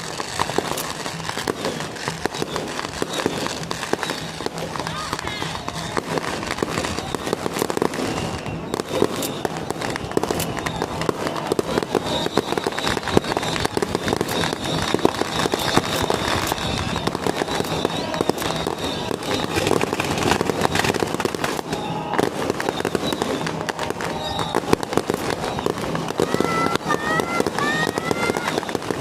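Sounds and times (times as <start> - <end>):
firecrackers crackling: 0.0 - 29.0.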